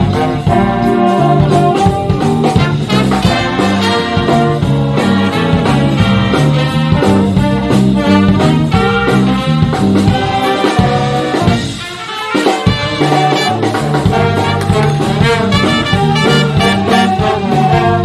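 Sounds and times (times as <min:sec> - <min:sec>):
big band playing swing: 0:00.0 - 0:18.0.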